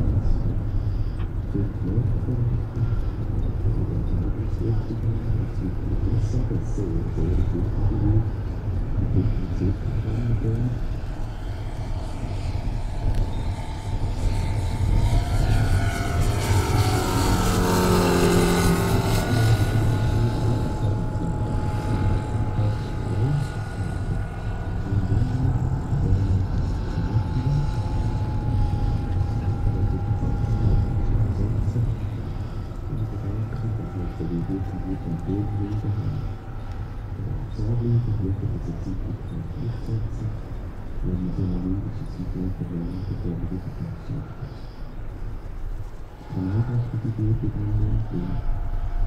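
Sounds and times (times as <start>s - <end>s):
model plane propeller drone: 0.0s - 49.0s.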